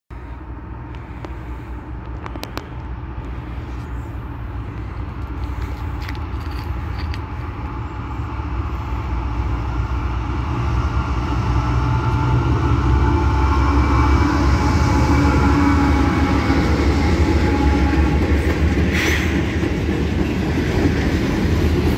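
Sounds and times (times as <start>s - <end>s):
locomotive engine rumble: 0.1s - 21.9s.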